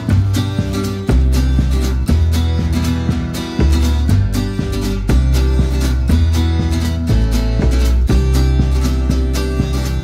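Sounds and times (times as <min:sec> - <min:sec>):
strummed acoustic guitar music: 0:00.0 - 0:10.0.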